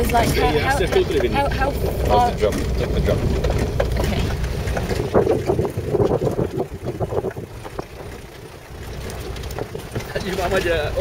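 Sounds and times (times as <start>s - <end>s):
vehicle body clattering: 0.0s - 11.0s
vehicle engine and tyre rumble: 0.0s - 11.0s.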